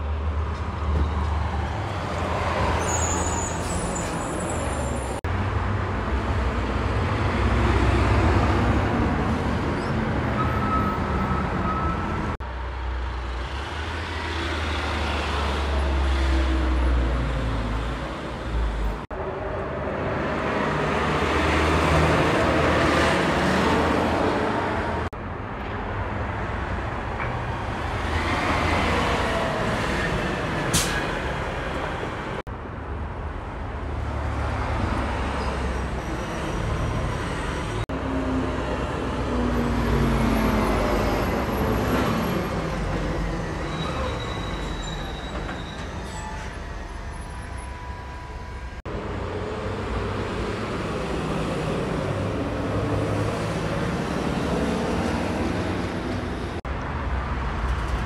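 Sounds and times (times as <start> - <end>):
heavy trucks driving past: 0.0 - 32.4, 33.8 - 58.0
tyre and road noise: 0.0 - 58.0.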